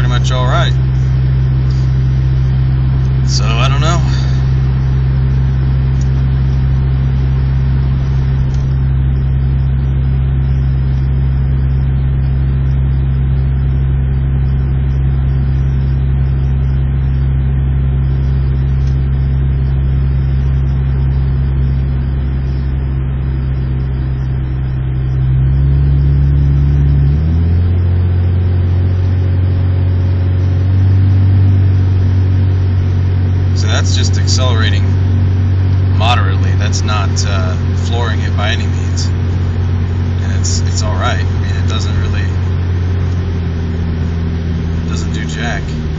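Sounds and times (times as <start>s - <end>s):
car engine and road drone: 0.0s - 45.9s.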